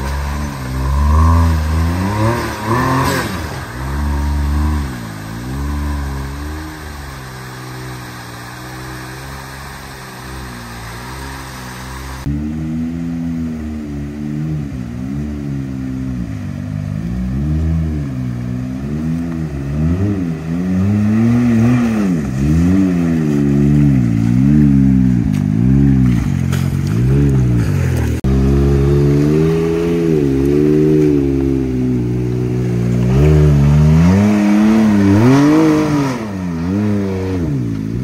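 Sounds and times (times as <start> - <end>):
off-road vehicle engine revving: 0.0 - 38.0
steady loud engine note: 0.0 - 38.0.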